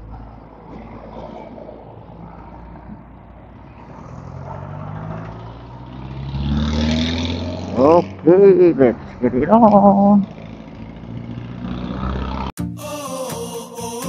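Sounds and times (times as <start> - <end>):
vehicle engine running: 0.0 - 12.5
road noise: 0.0 - 12.6.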